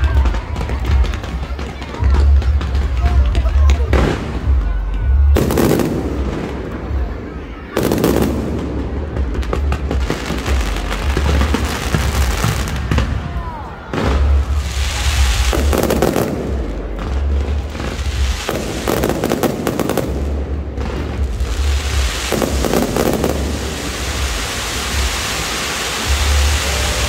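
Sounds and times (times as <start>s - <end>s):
heavy fireworks booms: 0.0s - 27.0s.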